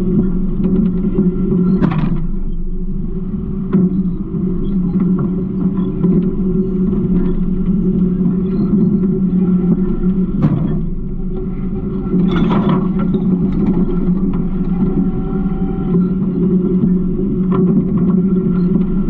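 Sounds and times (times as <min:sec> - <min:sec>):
garbage truck engine drone: 0:00.0 - 0:19.0.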